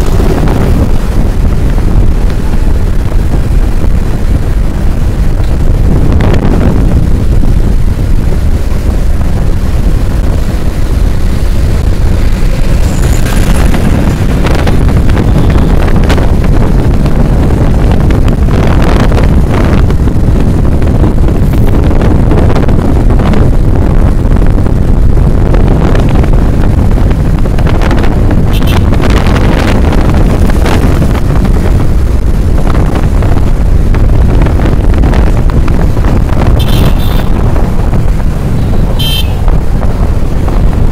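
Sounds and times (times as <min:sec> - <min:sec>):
vehicle and road noise: 0:00.0 - 0:40.9
wind buffeting microphone: 0:00.0 - 0:40.9.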